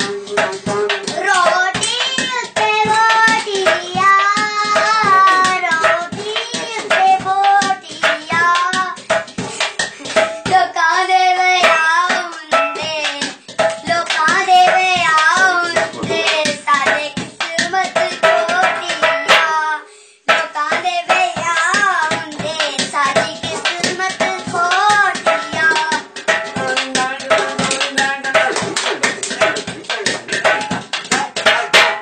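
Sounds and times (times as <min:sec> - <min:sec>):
boy singing: 0:00.0 - 0:31.8
hands beating metal pot and plates: 0:00.0 - 0:32.0.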